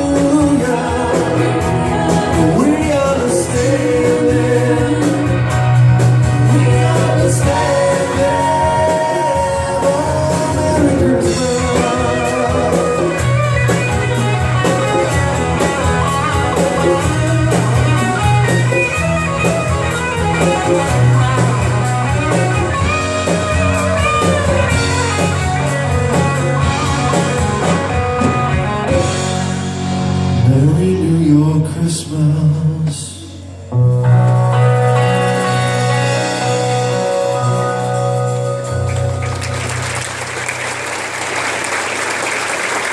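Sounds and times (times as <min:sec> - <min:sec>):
band and singer playing pop-rock: 0:00.0 - 0:42.9.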